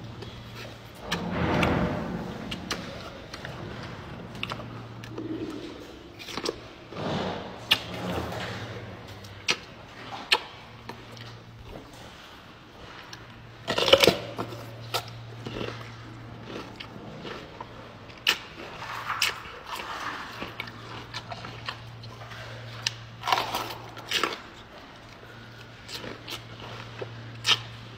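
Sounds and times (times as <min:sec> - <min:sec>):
gorilla chewing an apple: 0:00.0 - 0:27.9
steady low hum: 0:00.0 - 0:27.9.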